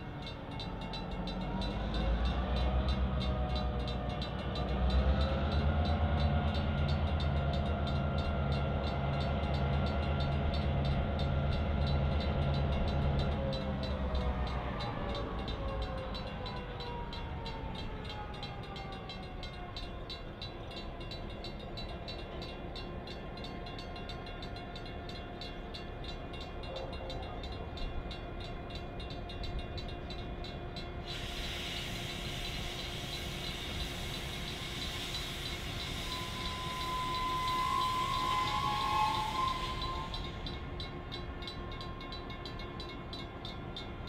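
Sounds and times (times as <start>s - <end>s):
diesel locomotive engine whine: 0.0s - 44.0s.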